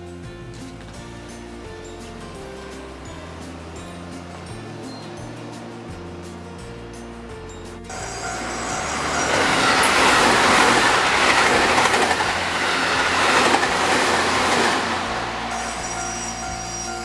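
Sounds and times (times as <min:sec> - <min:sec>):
train passing on rails: 0:01.0 - 0:17.0.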